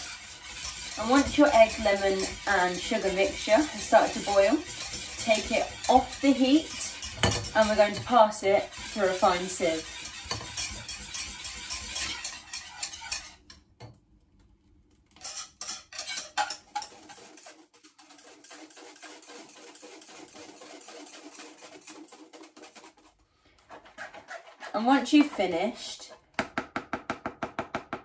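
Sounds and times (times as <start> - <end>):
scraping through sieve: 0.0 - 13.3, 16.0 - 26.1
whisk scraping saucepan: 0.0 - 13.6, 15.1 - 26.3.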